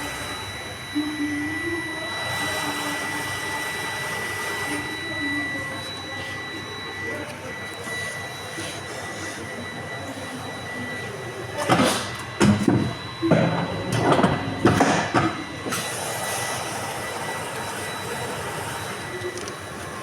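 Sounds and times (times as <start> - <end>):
paper cutting machine humming: 0.0 - 20.0.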